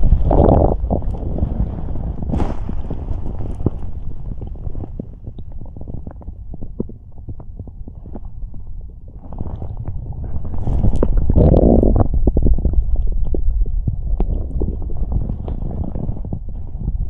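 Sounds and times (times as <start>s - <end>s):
stomach rumbling and gurgling: 0.0s - 17.0s.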